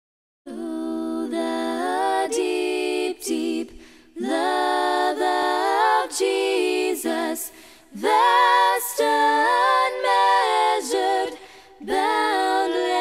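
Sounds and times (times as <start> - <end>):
vocal group singing a hymn: 0.5 - 13.0.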